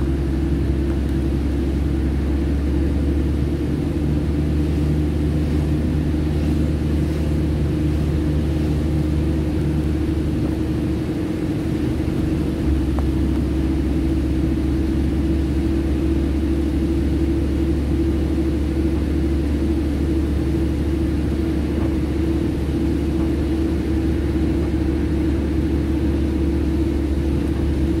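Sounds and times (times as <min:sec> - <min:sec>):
car tyres running through slush: 0:00.0 - 0:28.0.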